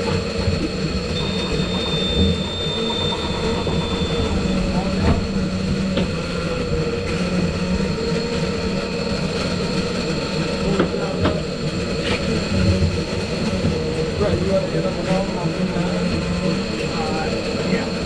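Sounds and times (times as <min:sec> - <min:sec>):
outboard engine droning: 0:00.0 - 0:18.0.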